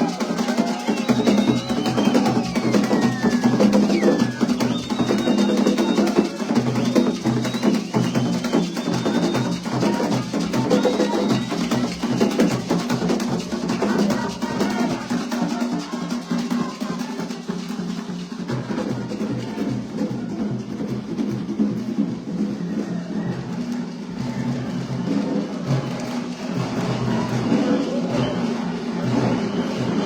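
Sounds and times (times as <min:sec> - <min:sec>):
drumming with steady beat: 0:00.0 - 0:30.0.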